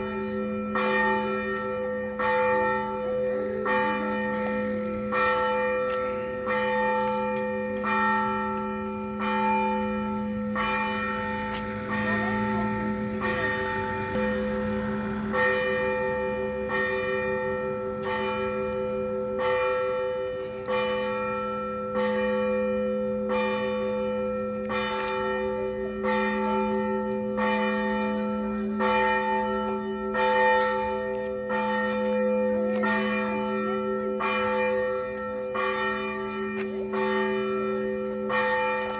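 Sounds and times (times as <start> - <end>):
hum of large bells: 0.0 - 38.9
small church bells striking: 0.0 - 38.9.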